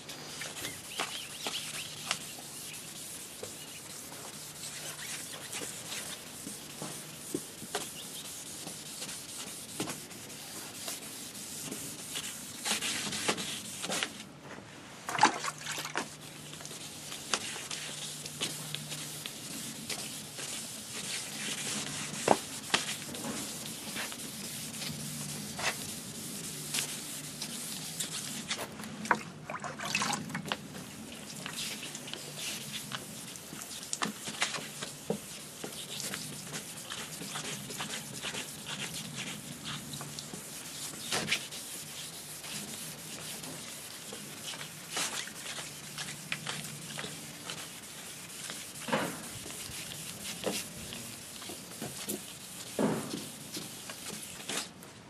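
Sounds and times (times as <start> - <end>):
sandpaper rubbing on plastic: 0.3 - 14.2, 16.0 - 28.6, 31.2 - 54.7.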